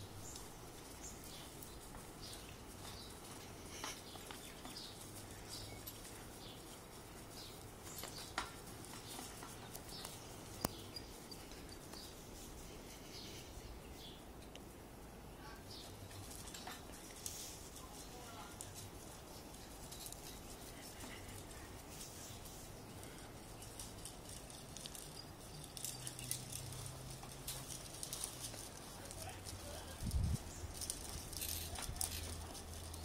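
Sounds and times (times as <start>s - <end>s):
outdoor ambience: 0.0s - 33.0s.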